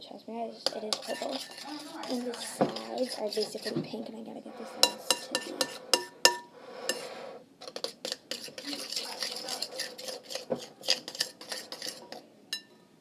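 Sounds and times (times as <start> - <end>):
spoon clinking against bowl: 0.6 - 3.8, 4.7 - 12.8
metal spoon scraping a bowl: 0.6 - 12.8.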